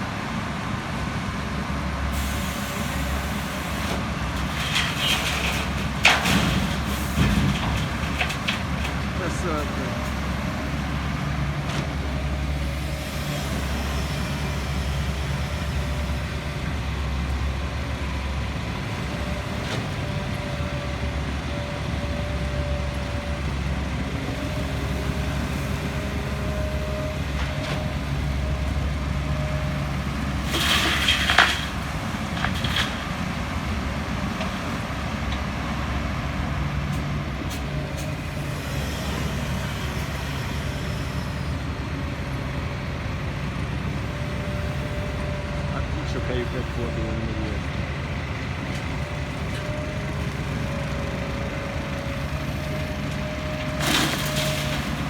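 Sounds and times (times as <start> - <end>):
diesel machinery droning: 0.0 - 55.0.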